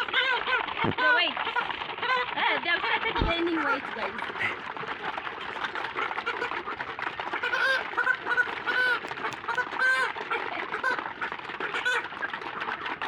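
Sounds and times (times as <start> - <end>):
chicken squawks: 0.0 - 13.0
flock of chickens: 0.0 - 13.0.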